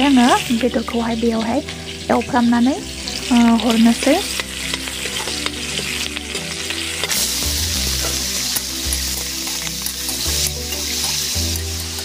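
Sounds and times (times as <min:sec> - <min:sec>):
onions and chicken sizzling in oil: 0:00.0 - 0:12.0.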